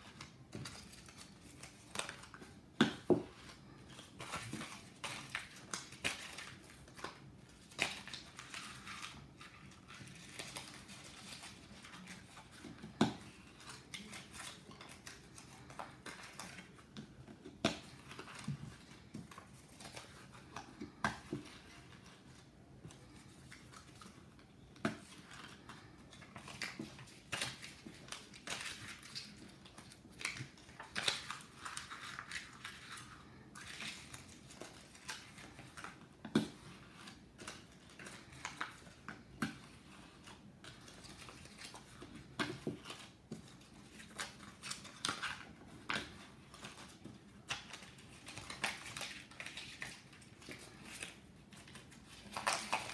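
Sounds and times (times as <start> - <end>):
paper rustling and crinkling: 0.0 - 52.9.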